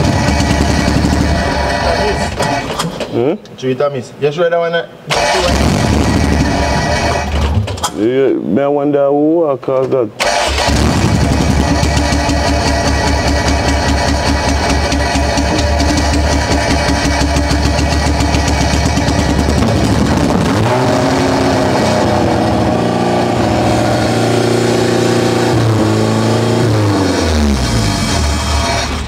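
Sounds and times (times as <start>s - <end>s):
car engine revving: 0.0s - 2.7s, 5.1s - 7.6s, 10.2s - 29.0s.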